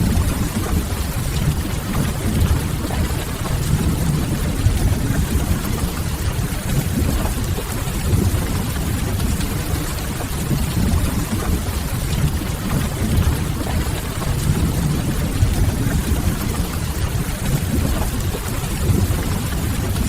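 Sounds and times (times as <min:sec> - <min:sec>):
low even rumble: 0:00.0 - 0:20.0
rain on a window: 0:00.0 - 0:20.0.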